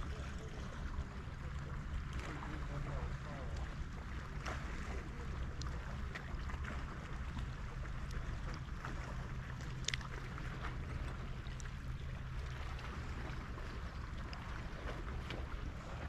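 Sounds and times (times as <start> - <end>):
water lapping: 0.0 - 16.0.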